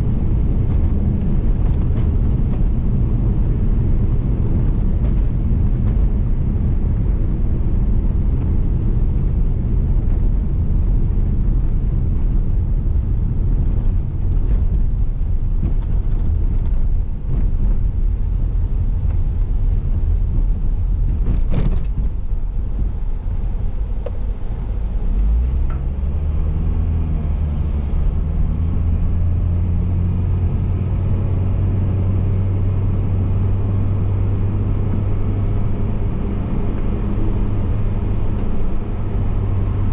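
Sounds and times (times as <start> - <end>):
car road noise inside cabin: 0.0 - 39.9.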